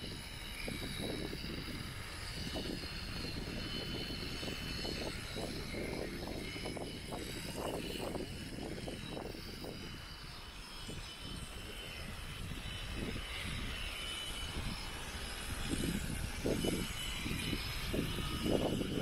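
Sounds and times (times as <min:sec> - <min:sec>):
electric shears whining: 0:00.0 - 0:19.0.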